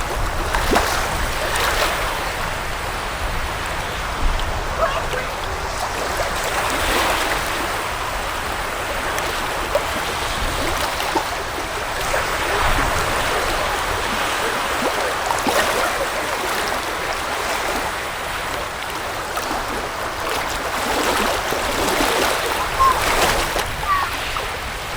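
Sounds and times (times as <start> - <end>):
low rumble of surf: 0.0 - 24.9
waves washing onto beach: 0.0 - 24.9.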